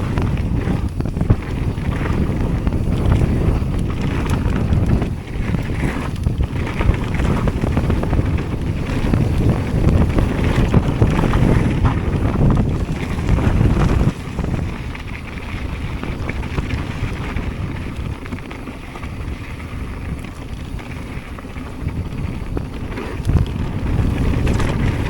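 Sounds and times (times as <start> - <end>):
bike rattling and knocking: 0.0 - 25.0
wind noise on microphone: 0.0 - 25.0.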